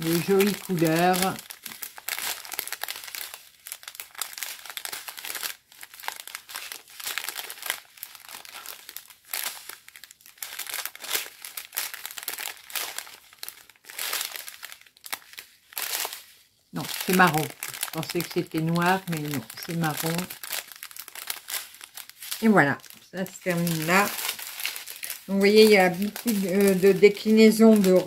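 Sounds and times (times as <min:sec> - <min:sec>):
plastic zip bags crinkling: 0:00.0 - 0:28.0.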